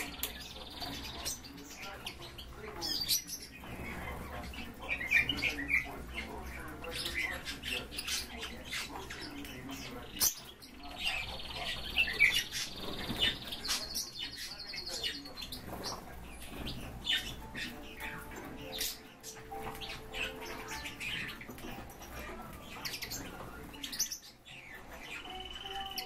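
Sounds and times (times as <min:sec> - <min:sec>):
birds chirping and squawking: 0:00.0 - 0:26.0.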